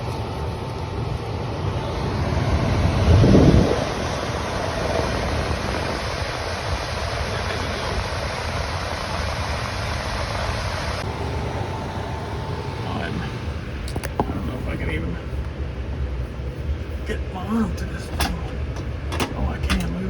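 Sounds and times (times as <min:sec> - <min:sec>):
air conditioning rushing: 0:00.0 - 0:20.0
low rumble: 0:00.0 - 0:20.0.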